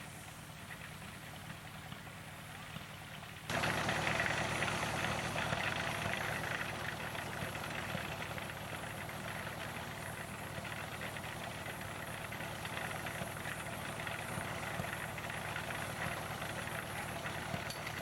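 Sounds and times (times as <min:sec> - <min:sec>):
steam engine running: 0:03.5 - 0:18.0.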